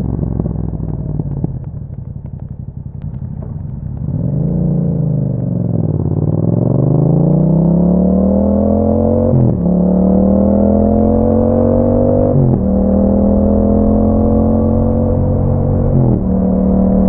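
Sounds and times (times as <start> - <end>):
motorcycle engine crackling rumble: 0.0 - 17.0.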